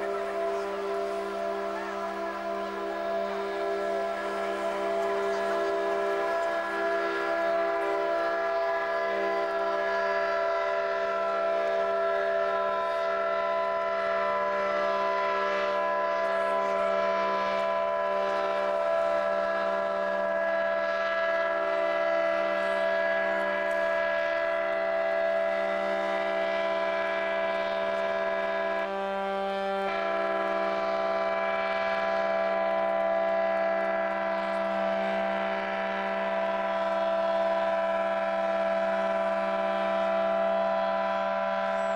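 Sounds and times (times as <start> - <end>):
horns and sirens sounding together: 0.0 - 41.9.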